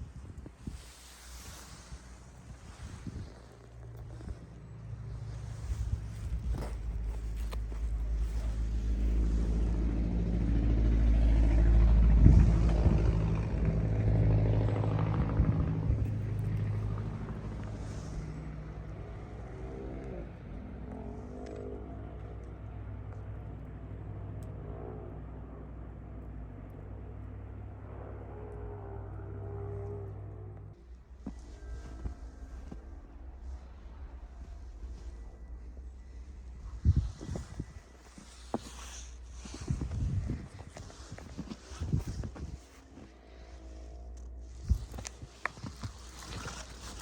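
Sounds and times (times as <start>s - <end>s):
low engine hum: 0.0s - 47.0s
motor vehicle passing: 0.8s - 47.0s.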